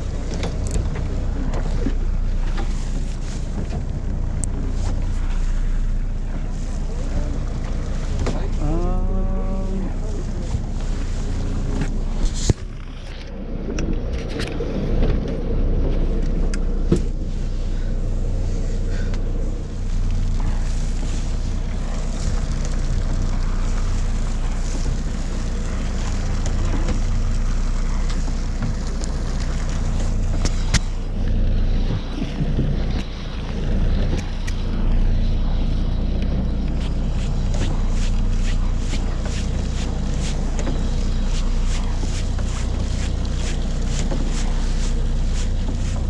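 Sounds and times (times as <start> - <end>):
boat engine humming: 0.0 - 46.0.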